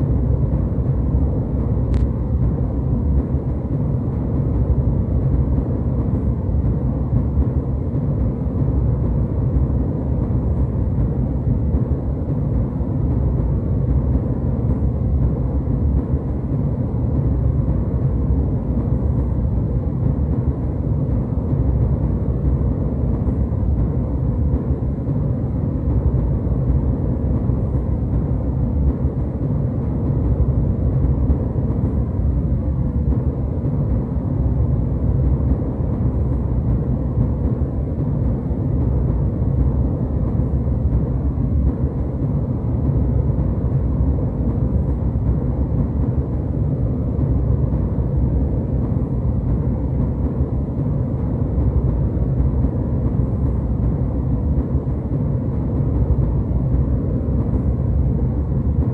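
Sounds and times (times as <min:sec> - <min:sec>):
jet airliner cabin rumble: 0:00.0 - 0:58.9.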